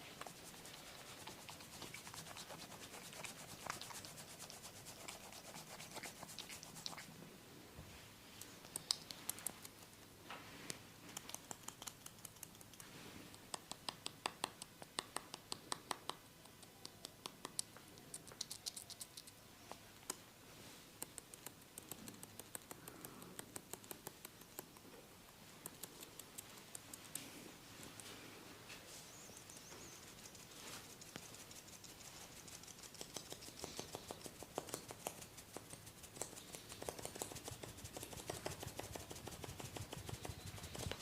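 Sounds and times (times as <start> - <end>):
hands scratching and clicking: 0.1 - 7.1, 8.4 - 10.0, 10.7 - 20.2, 21.0 - 28.3, 29.3 - 41.0.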